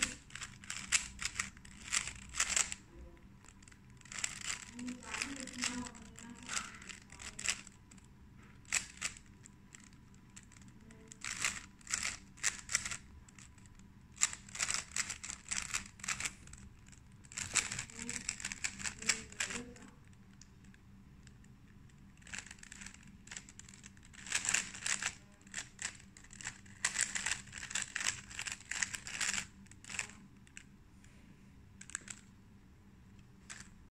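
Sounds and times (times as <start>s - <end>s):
puzzle cube clicking as turned: 0.0s - 2.8s, 3.4s - 8.0s, 8.6s - 30.7s, 31.8s - 32.3s, 33.4s - 33.8s.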